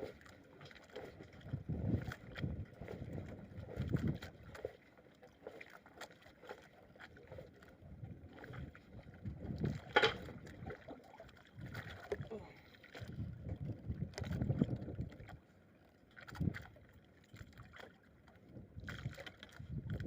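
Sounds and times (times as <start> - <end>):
water sloshing and lapping: 0.0 - 20.0.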